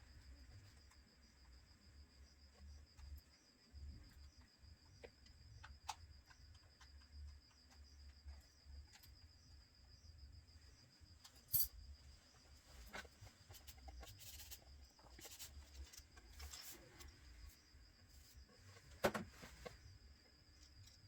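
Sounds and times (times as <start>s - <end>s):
cricket trilling: 0.0s - 21.0s.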